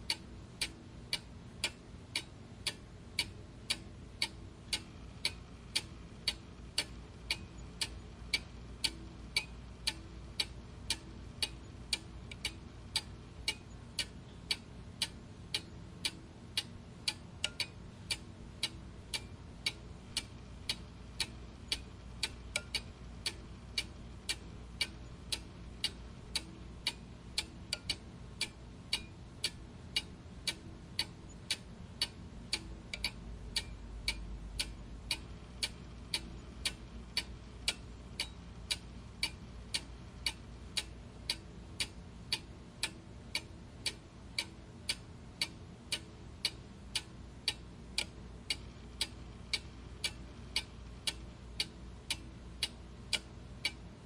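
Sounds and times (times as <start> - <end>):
clock ticking: 0.1 - 53.9.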